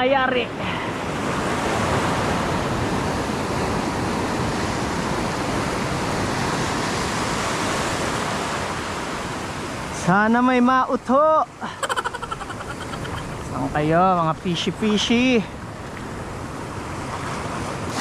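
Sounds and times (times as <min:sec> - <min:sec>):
sea surf washing ashore: 0:00.0 - 0:18.0.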